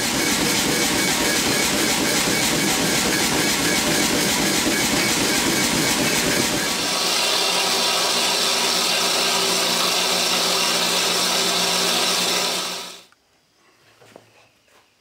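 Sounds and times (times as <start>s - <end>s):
band saw cutting steel: 0.0s - 13.1s.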